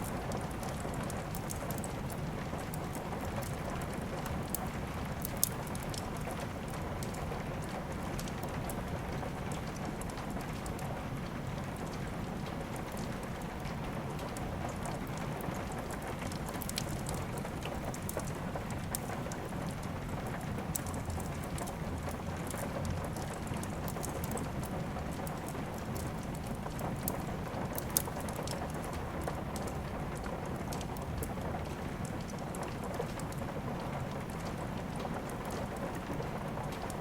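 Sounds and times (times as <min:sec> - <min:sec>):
fireplace crackling and popping: 0:00.0 - 0:10.9, 0:11.7 - 0:37.0
steady rain: 0:00.0 - 0:37.0.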